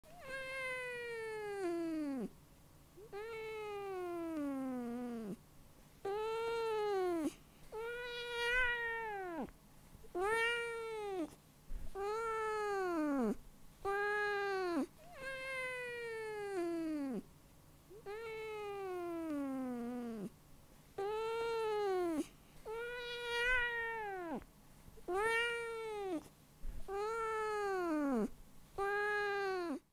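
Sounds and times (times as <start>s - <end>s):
cat meowing softly: 0.1s - 2.3s, 3.0s - 5.4s, 6.1s - 9.5s, 10.1s - 17.2s, 17.9s - 20.3s, 21.0s - 26.3s, 26.9s - 29.8s.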